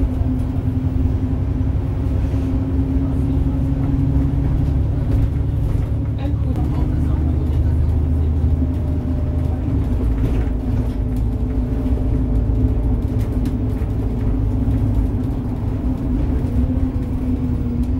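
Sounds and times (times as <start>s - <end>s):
road noise: 0.0s - 17.9s
vehicle engine drone: 0.0s - 17.9s.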